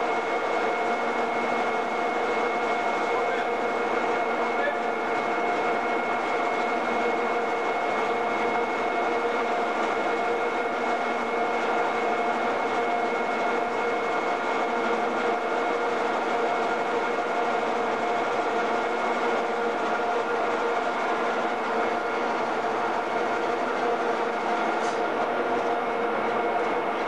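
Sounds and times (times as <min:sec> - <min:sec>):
machinery hum: 0:00.0 - 0:27.0.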